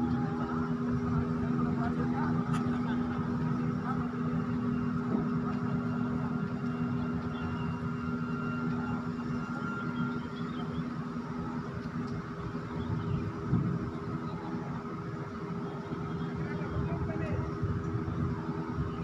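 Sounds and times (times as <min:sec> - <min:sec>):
heavy machinery humming: 0:00.0 - 0:19.0.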